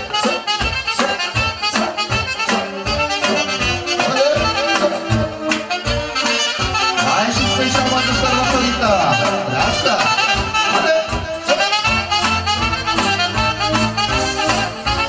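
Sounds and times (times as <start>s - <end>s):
lively party band music: 0.0s - 15.0s.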